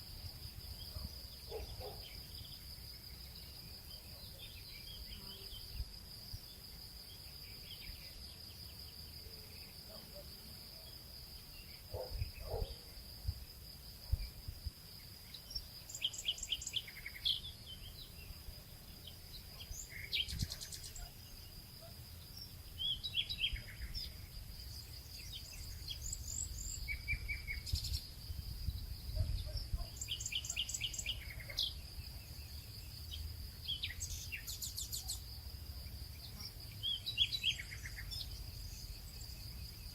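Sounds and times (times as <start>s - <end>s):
high insect buzz: 0.0s - 9.9s, 11.1s - 39.9s.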